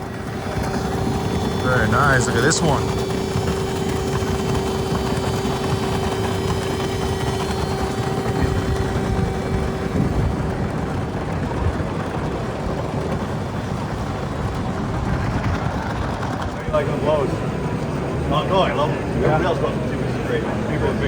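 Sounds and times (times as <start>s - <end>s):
machine low rumble: 0.0s - 20.7s
held hum: 0.0s - 21.0s.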